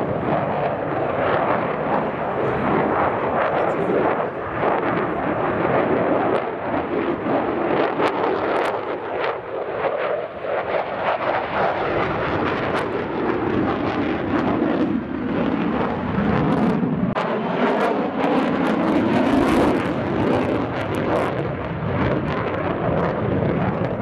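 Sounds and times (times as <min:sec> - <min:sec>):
jet engine roar with crackle: 0:00.0 - 0:24.0.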